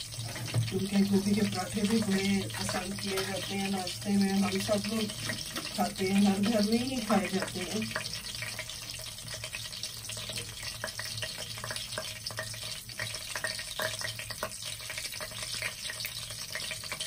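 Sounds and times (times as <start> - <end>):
spices sizzling and crackling in oil: 0.0 - 17.0.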